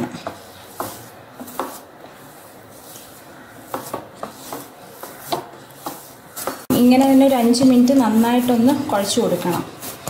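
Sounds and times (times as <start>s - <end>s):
hand kneading dough: 0.0s - 10.0s.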